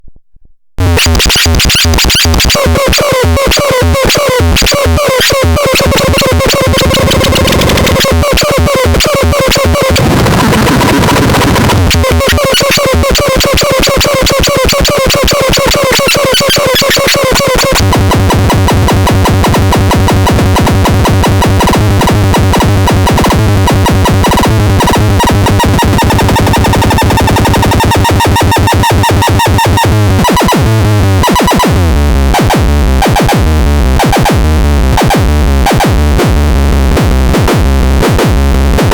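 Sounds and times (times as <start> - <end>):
pulsing bass: 0.0 - 38.9
harsh synthesizer pulses: 0.8 - 38.9.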